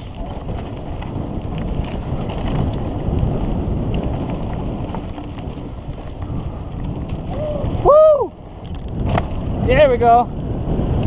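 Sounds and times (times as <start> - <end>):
tyres rolling over dirt: 0.0 - 10.0
bike rattling and knocking: 0.0 - 11.0
wind buffeting microphone: 0.0 - 11.0.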